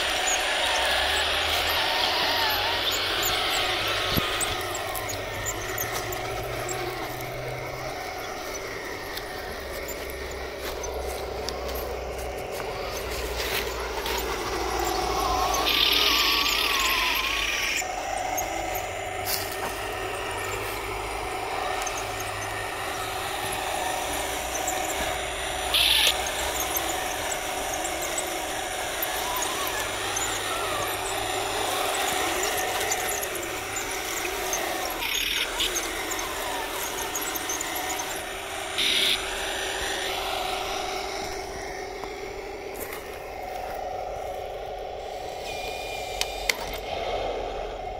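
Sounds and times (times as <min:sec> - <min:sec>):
model tank driving with whine: 0:00.0 - 0:47.9.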